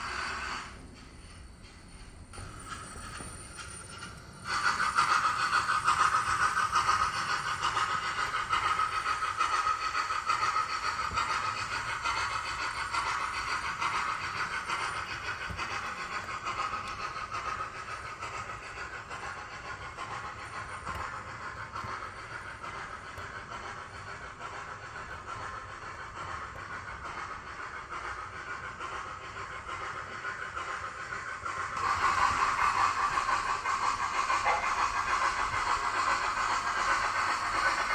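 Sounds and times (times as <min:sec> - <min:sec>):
model steam locomotive hissing: 0:00.0 - 0:37.9.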